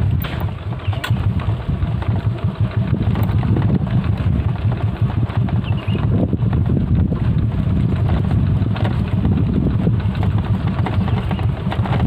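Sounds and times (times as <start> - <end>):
knocks and rattles on rough track: 0.0 - 12.0
motorbike engine at low revs: 0.0 - 12.0.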